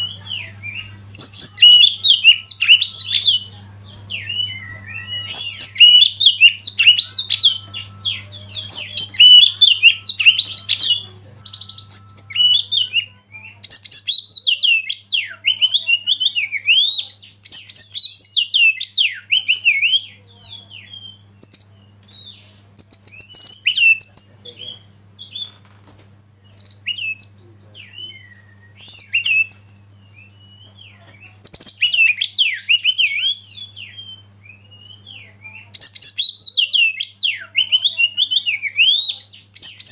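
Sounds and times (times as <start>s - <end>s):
faint low hum: 0.0s - 39.9s
songbird singing: 0.0s - 39.9s.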